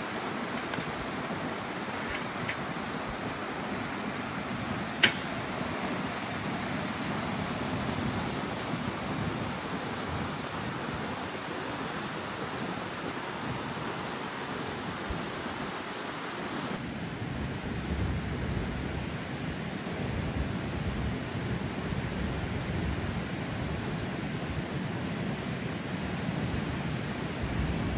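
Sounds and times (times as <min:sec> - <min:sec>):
ocean surf washing ashore: 0:00.0 - 0:27.9.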